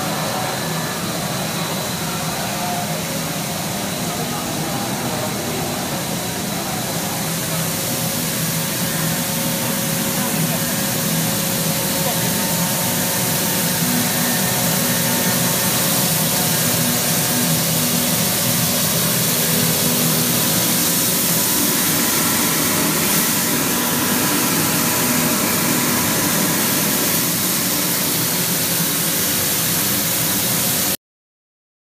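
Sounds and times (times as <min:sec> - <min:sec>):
machine hum with held tones: 0:00.0 - 0:30.9
strong hiss: 0:00.0 - 0:31.0.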